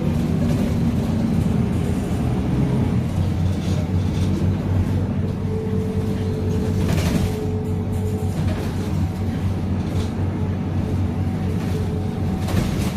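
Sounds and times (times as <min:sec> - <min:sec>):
bus diesel engine droning: 0:00.0 - 0:12.9.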